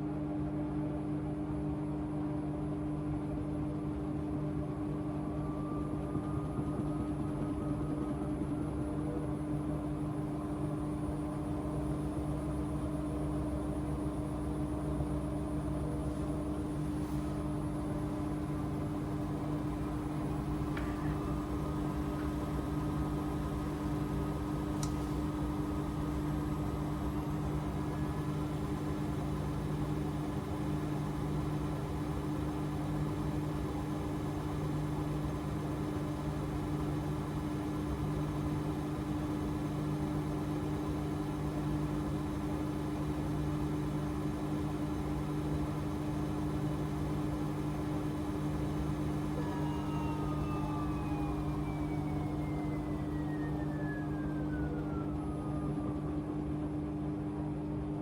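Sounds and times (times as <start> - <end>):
faint whine: 5.2 - 56.5
washing machine motor hum: 5.4 - 56.7.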